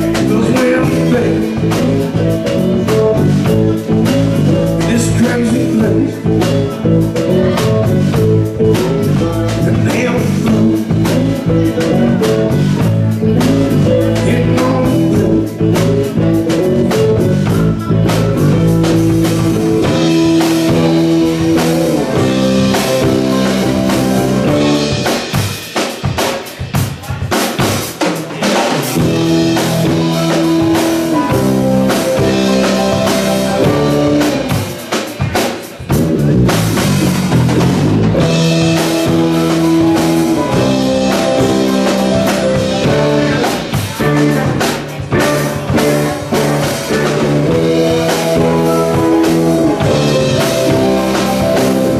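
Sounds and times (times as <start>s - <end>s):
sustained guitar chords: 0.0s - 25.3s, 29.0s - 34.8s, 36.1s - 51.9s
bass guitar: 0.0s - 27.8s, 28.5s - 51.9s
drum kit: 0.0s - 51.9s.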